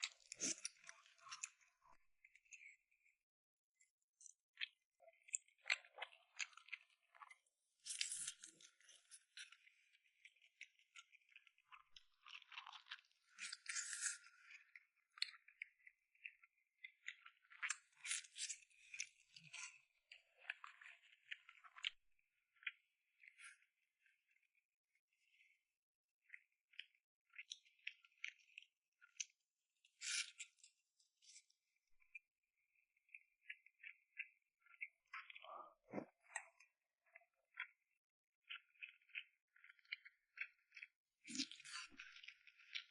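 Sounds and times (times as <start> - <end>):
crunching and chewing: 0.0 - 3.2, 3.8 - 24.5, 26.2 - 42.9.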